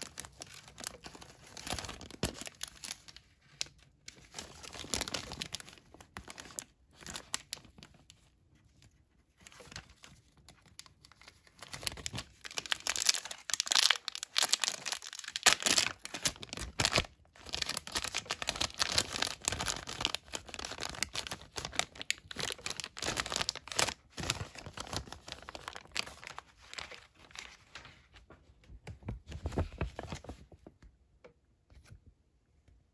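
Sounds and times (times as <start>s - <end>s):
plastic bag crinkling and tearing: 0.0s - 8.1s, 9.4s - 27.8s.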